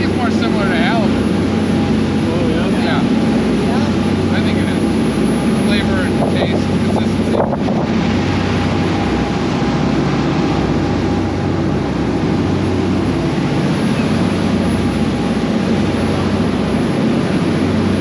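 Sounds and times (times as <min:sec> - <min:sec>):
boat engine drone: 0:00.0 - 0:18.0
water rushing: 0:00.0 - 0:18.0
wind: 0:00.0 - 0:18.0.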